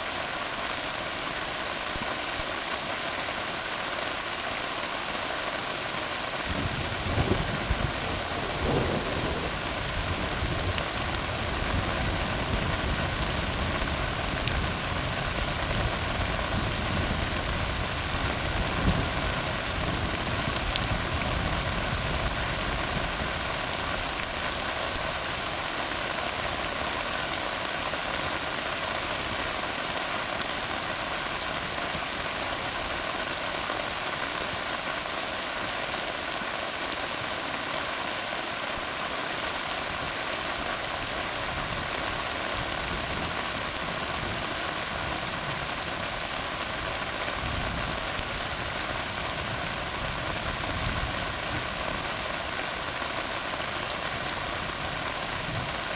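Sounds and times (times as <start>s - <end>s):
rain on a road: 0.0s - 55.9s.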